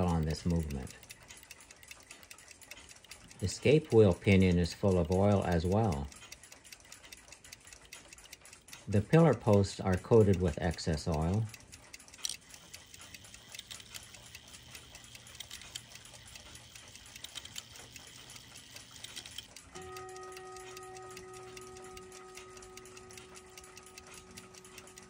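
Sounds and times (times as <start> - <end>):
clock ticking: 0.0 - 25.0.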